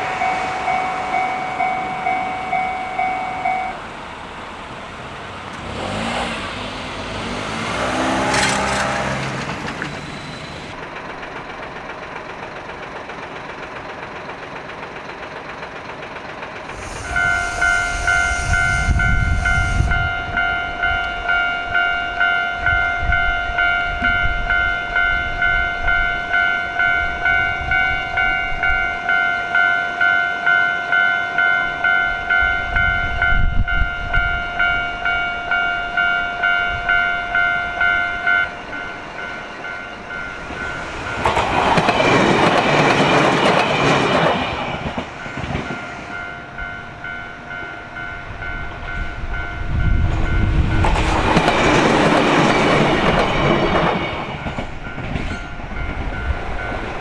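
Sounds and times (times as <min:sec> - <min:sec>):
level crossing warning bell ringing: 0:00.0 - 0:11.1, 0:16.7 - 0:57.0
train wheels on rails: 0:00.0 - 0:57.0
trains rushing past: 0:00.0 - 0:57.0.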